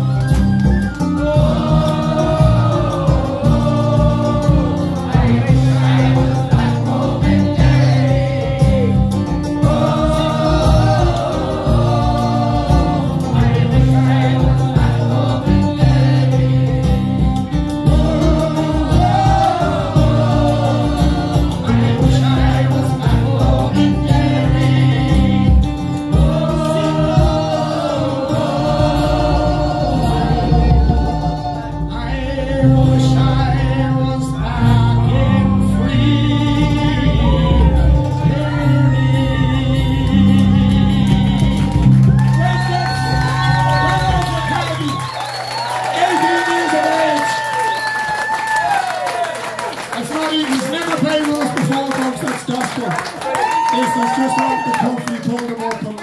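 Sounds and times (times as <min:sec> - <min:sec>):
many voices singing along: 0:00.0 - 0:47.2
folk band playing: 0:00.0 - 0:52.3.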